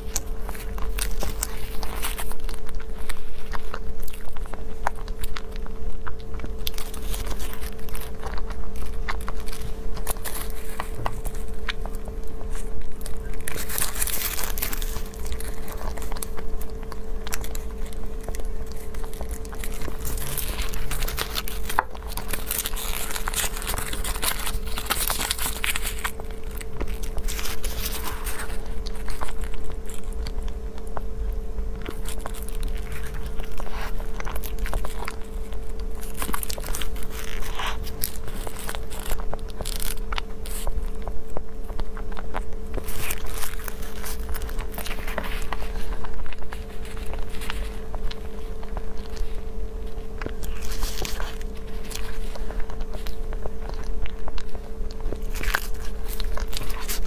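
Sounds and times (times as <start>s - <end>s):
person biting and chewing bun: 0.0s - 57.0s
plastic bag crinkling and tearing: 0.0s - 57.0s
steady hum: 0.0s - 57.0s.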